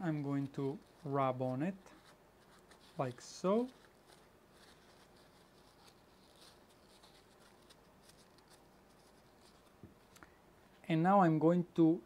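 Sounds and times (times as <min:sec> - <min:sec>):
tissue rubbing on metal: 0:00.0 - 0:10.2.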